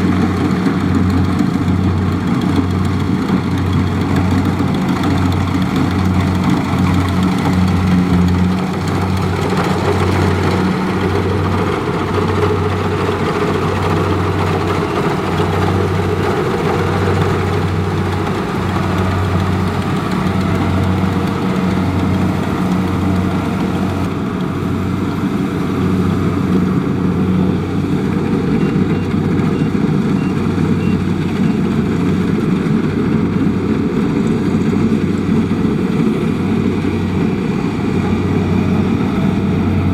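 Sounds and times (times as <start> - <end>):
combine harvester engine humming: 0.0 - 39.9.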